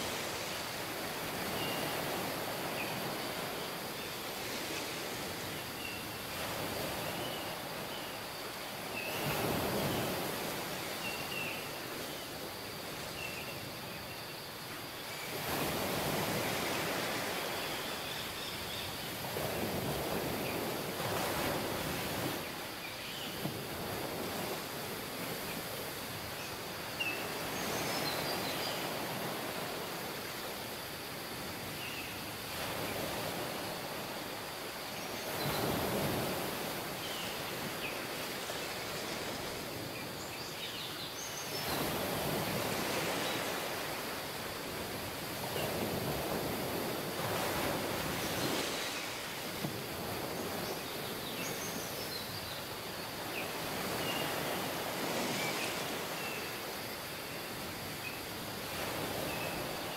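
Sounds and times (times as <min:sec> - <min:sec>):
ocean surf washing on shore: 0:00.0 - 0:59.9.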